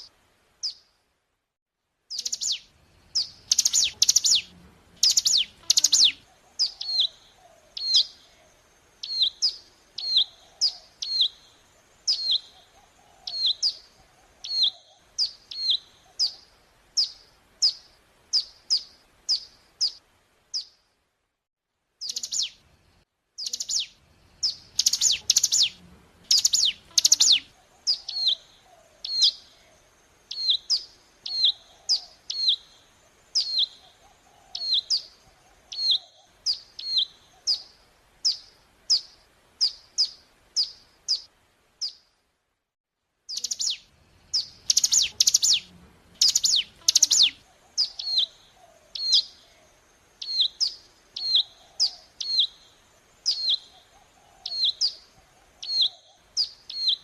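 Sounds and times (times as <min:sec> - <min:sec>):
bird chirping: 0:00.0 - 0:00.9, 0:02.1 - 0:20.9, 0:22.0 - 0:42.2, 0:43.3 - 0:57.0.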